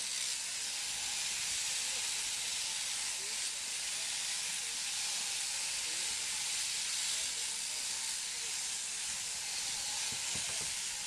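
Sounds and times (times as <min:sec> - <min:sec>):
electric shears whirring: 0:00.0 - 0:11.0.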